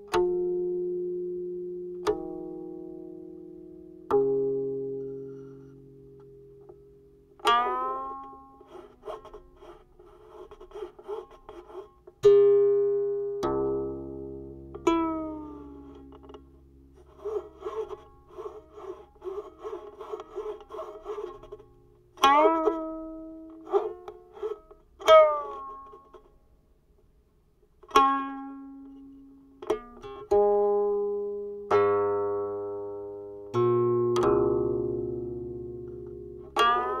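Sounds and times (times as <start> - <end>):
plucked zither notes: 0.0 - 26.4, 27.8 - 37.0.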